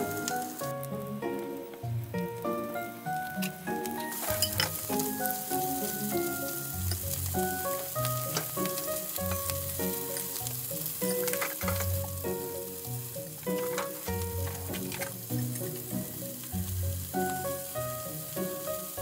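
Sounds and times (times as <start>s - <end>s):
chicken sizzling in a frying pan: 0.0s - 19.0s.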